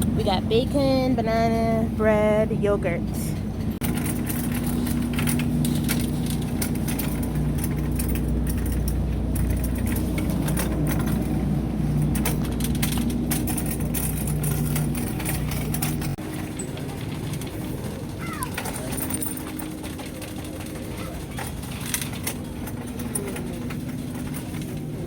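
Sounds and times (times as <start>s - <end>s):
shopping cart rattling: 0.0s - 25.0s
steady low hum: 0.0s - 25.0s.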